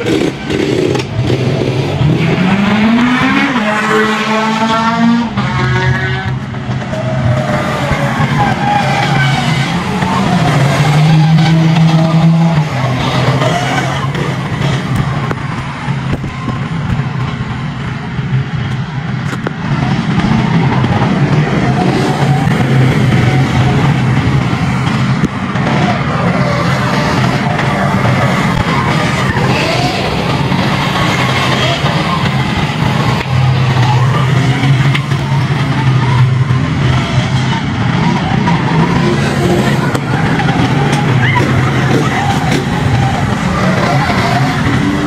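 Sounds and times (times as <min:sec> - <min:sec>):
small petrol engine: 0:00.0 - 0:45.0.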